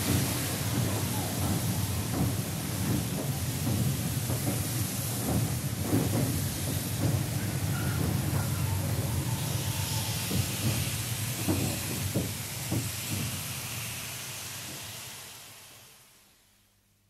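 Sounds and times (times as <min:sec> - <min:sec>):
train clunks: 0:00.0 - 0:15.0
low train rumble: 0:00.0 - 0:17.0
steam hiss: 0:00.0 - 0:17.0.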